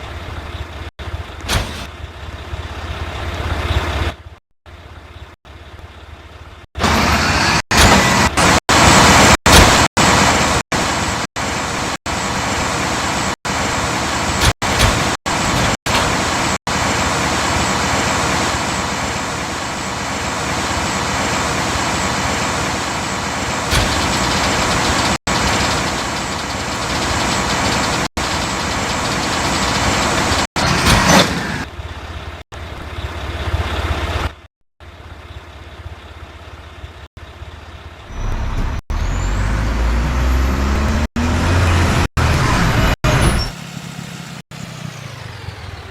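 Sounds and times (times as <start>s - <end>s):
garbage truck running: 0.0s - 45.9s.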